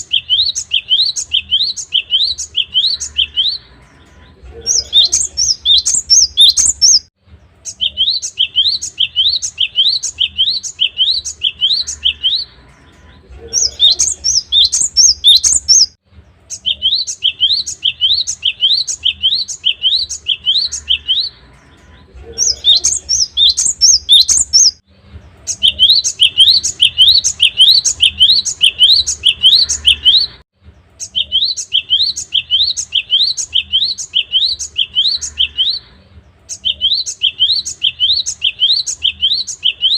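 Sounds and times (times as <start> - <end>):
bird whistling repeated notes: 0.0 - 3.8, 4.6 - 12.6, 13.5 - 21.5, 22.4 - 24.8, 25.4 - 30.4, 31.0 - 39.9.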